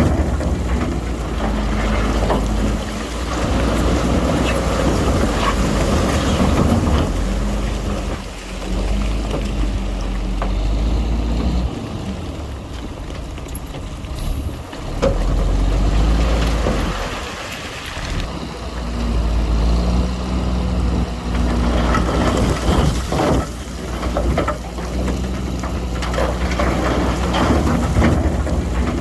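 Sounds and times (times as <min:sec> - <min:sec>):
diesel machinery engine: 0:00.0 - 0:29.0.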